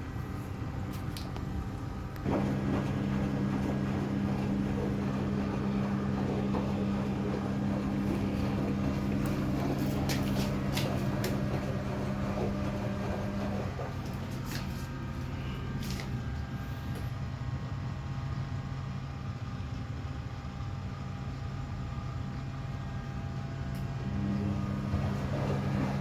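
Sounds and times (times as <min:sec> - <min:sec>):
washing machine humming: 0:00.0 - 0:26.0.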